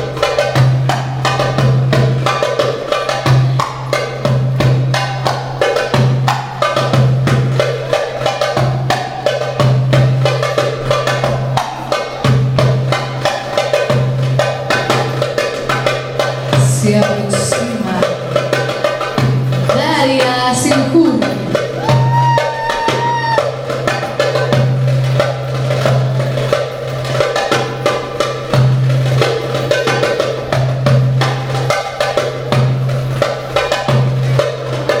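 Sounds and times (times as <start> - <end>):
goblet drum played fast: 0.0 - 35.0.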